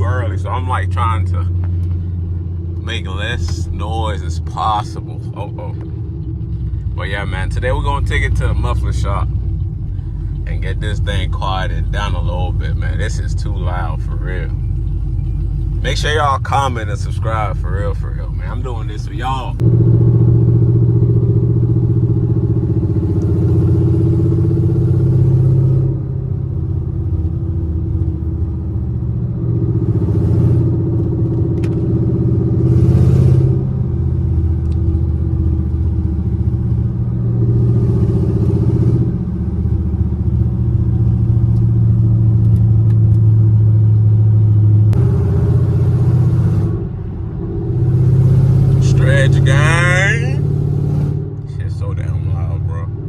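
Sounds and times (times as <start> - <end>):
deep car exhaust drone: 0.0 - 53.0.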